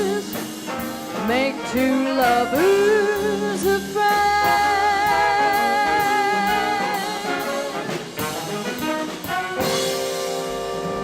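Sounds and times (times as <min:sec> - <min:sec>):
drums: 0:00.0 - 0:11.0
swing band horn section: 0:00.0 - 0:11.0
upright bass: 0:00.0 - 0:11.0.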